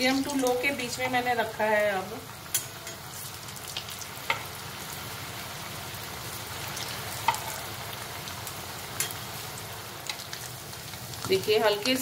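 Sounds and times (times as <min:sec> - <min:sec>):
dough deep-frying in oil: 0:00.0 - 0:12.0.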